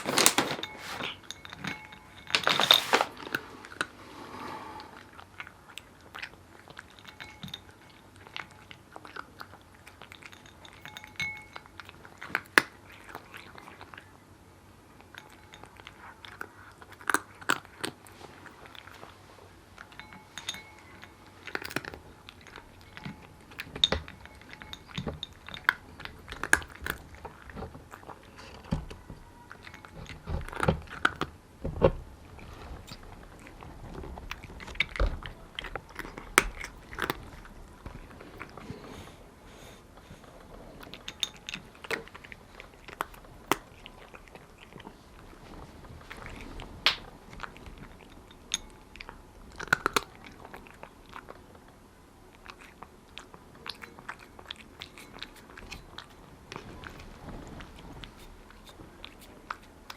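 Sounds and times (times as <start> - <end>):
cat crunching dry food: 0.0 - 4.2, 5.0 - 14.2, 14.8 - 31.4, 32.0 - 59.9.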